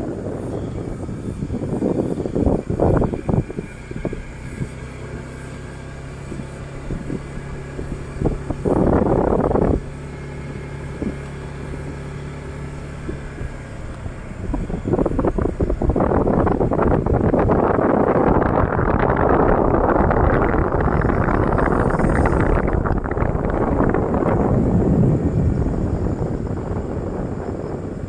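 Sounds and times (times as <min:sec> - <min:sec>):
motorcycle engine running: 0:00.0 - 0:28.0
wind noise on microphone: 0:00.0 - 0:28.0.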